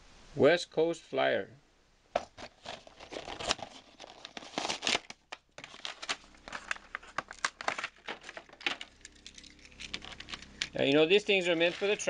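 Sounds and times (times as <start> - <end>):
plastic blister pack crackling: 2.2 - 12.0.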